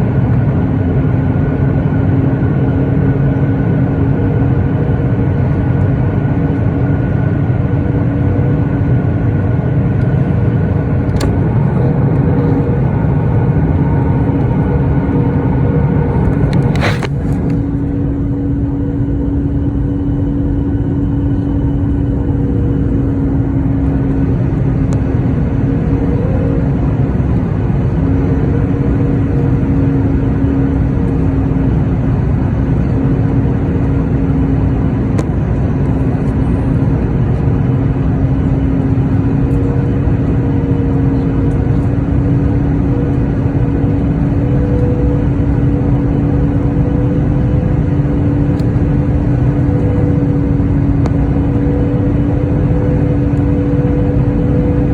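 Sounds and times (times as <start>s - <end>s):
aircraft engine rumble: 0.0s - 54.9s
constant low hum: 0.0s - 54.9s.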